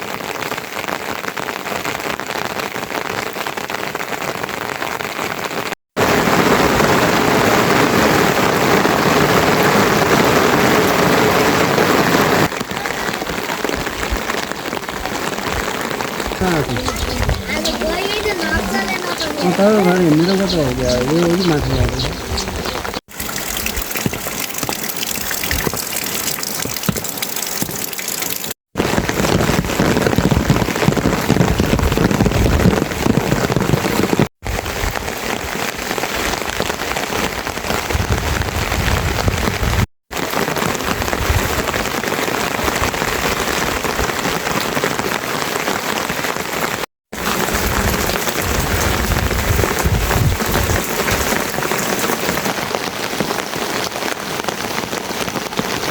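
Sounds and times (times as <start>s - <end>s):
rain falling and pattering: 0.0s - 55.9s.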